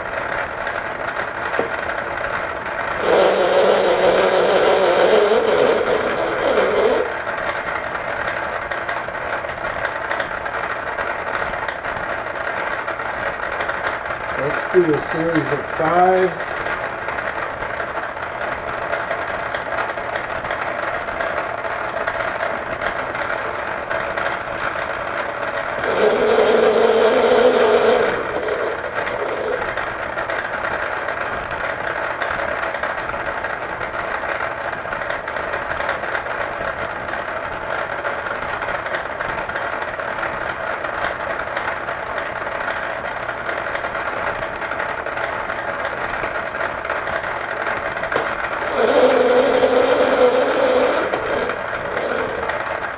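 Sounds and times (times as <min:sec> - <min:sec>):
metal lathe running: 0:00.0 - 0:52.9.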